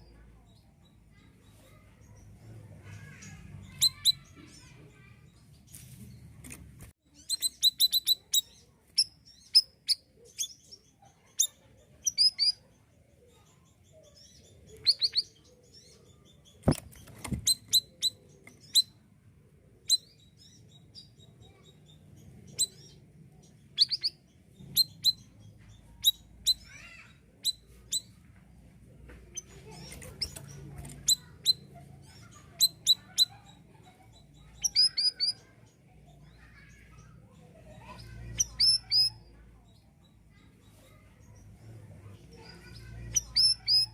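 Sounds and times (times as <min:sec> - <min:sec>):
songbird high chirps: 0:00.0 - 0:19.1, 0:19.8 - 0:43.9.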